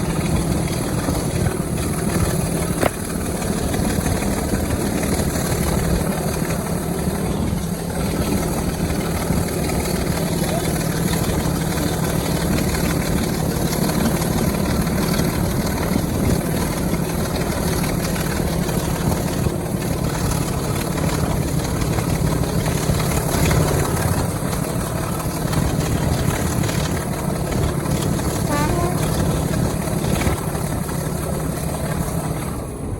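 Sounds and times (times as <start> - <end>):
diesel locomotive engine running: 0.0 - 32.9.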